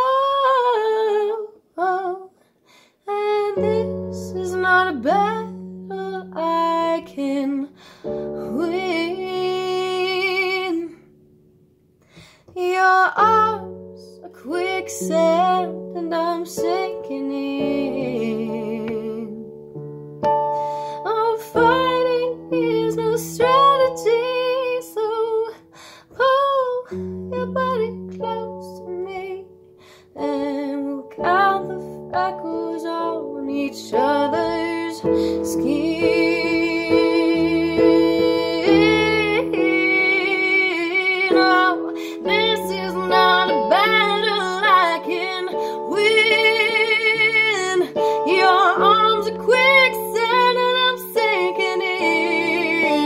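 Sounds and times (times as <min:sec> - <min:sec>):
woman singing: 0:00.0 - 0:02.4, 0:03.0 - 0:11.1, 0:12.5 - 0:19.6, 0:20.6 - 0:53.0
piano accompaniment: 0:03.1 - 0:53.0.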